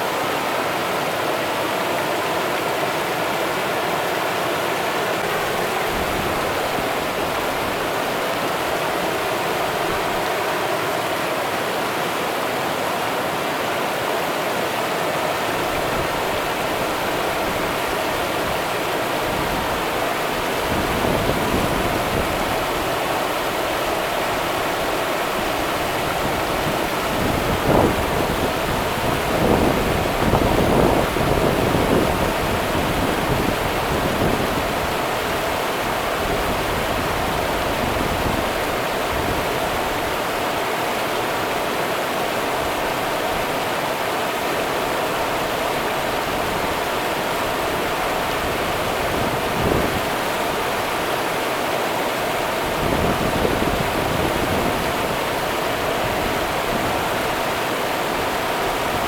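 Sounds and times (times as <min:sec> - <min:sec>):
river water over rocks: 0:00.0 - 0:59.0.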